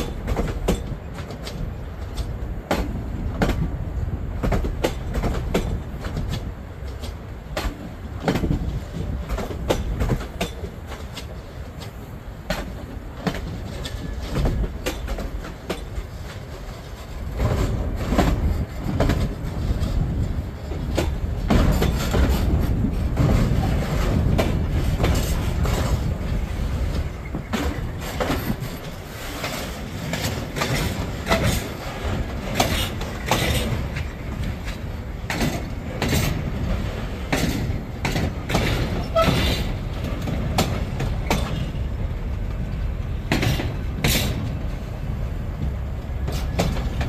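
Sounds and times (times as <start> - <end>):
train cars rolling rumble: 0.0 - 47.0
train wheels clicking over rail joints: 0.0 - 47.0.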